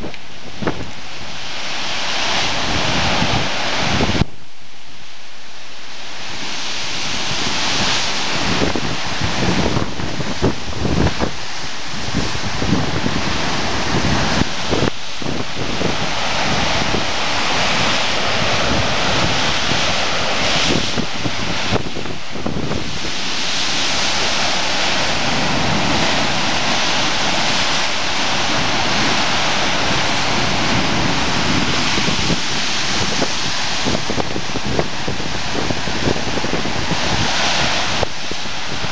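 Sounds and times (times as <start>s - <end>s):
wind buffeting microphone: 0.0s - 4.5s, 5.8s - 38.9s
storm waves breaking on rocks: 0.0s - 38.9s.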